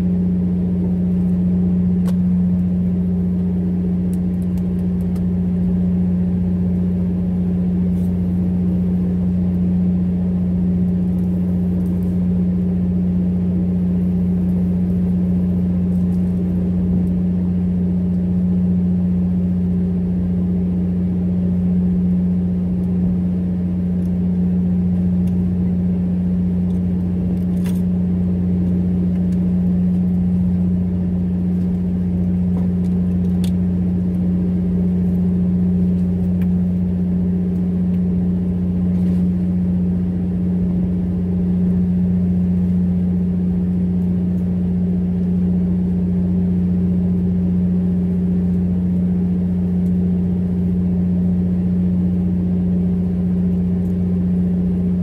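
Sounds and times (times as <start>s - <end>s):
boat diesel engine droning: 0.0s - 55.0s.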